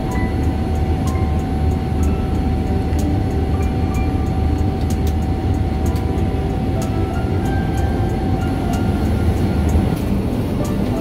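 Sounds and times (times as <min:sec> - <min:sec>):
jet engine and airflow rumble: 0:00.0 - 0:11.0
steady whine: 0:00.0 - 0:11.0.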